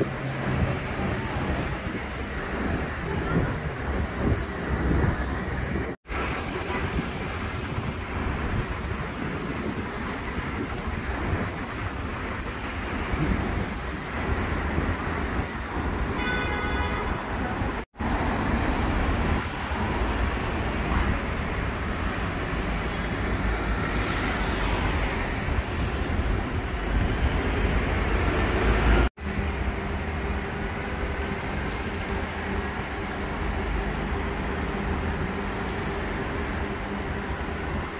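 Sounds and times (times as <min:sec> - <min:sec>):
traffic rumble: 0:00.0 - 0:37.9.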